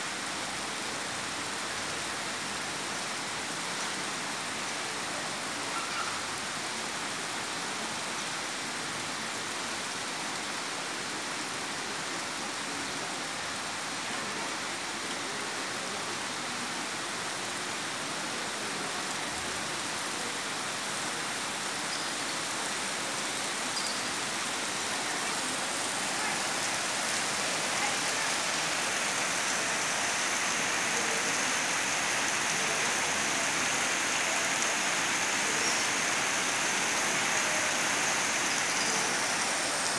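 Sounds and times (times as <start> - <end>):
torrential rain pouring: 0.0 - 39.9.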